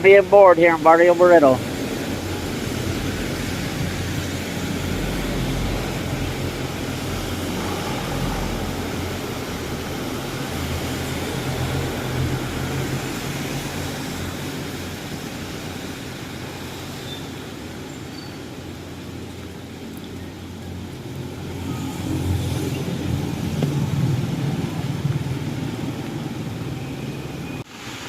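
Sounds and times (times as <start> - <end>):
noisy hiss: 0.0 - 28.0.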